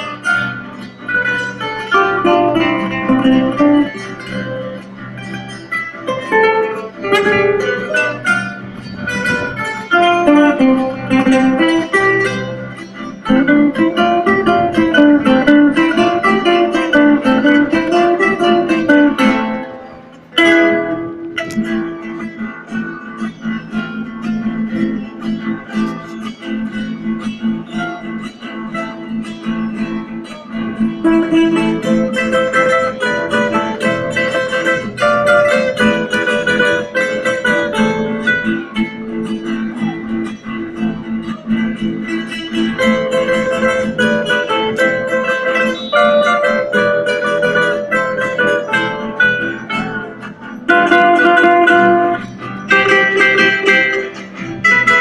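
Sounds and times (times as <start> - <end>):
acoustic guitars ensemble playing: 0.0 - 55.0.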